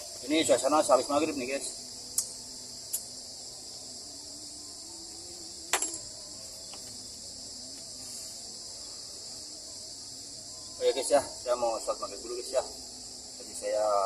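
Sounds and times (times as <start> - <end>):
crickets and night insects chirping: 0.0 - 14.0.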